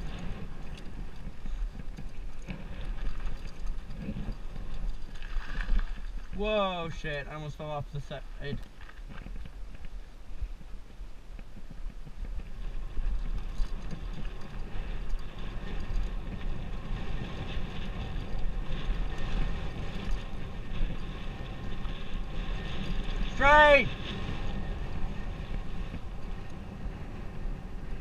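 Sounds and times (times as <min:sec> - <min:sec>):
tyres rolling on dry dirt: 0:00.0 - 0:28.0
wind buffeting microphone: 0:00.0 - 0:28.0.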